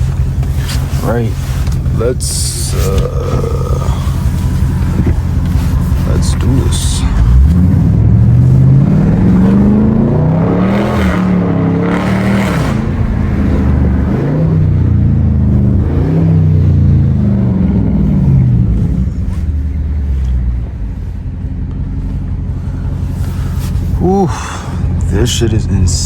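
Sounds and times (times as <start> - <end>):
car engine revving under throttle: 0.0 - 26.0.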